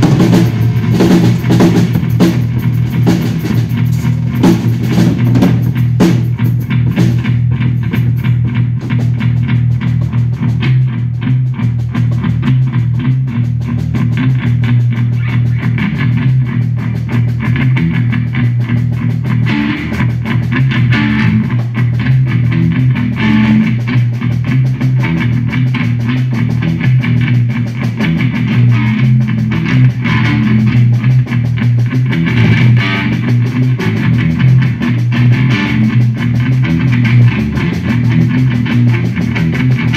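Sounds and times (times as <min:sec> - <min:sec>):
drum kit playing: 0:00.0 - 0:39.9
electric bass guitar drone: 0:00.0 - 0:39.9.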